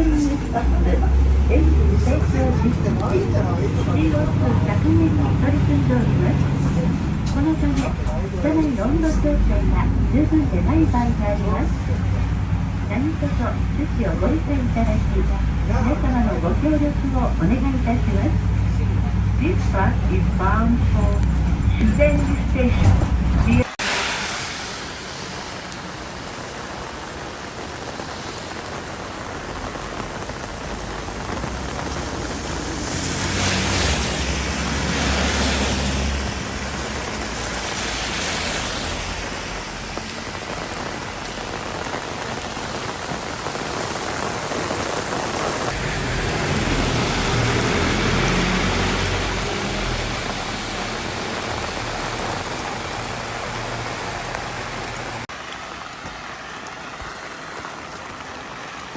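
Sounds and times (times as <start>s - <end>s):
heavy rain hiss: 0.0s - 22.0s, 22.6s - 58.9s
low rumbles: 0.0s - 55.3s.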